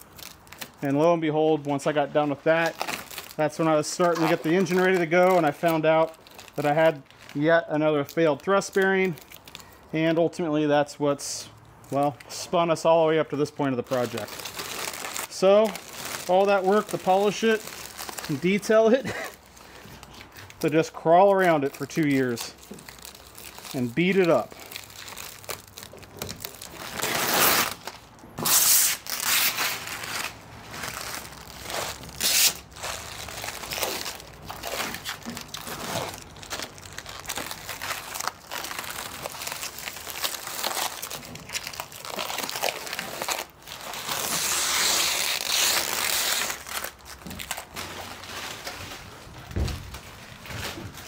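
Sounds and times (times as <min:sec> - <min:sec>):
plastic film crinkling and rustling: 0:00.0 - 0:10.4, 0:11.3 - 0:51.0.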